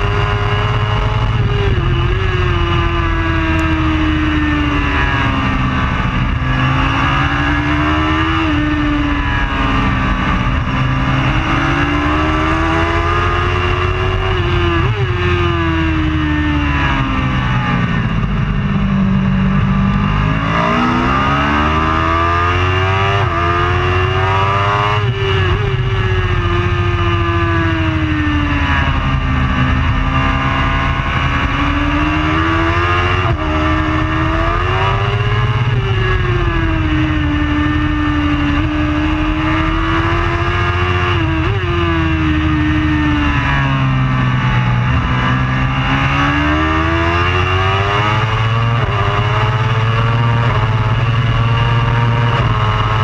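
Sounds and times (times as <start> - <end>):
motorcycle engine revving high: 0.0 - 53.0.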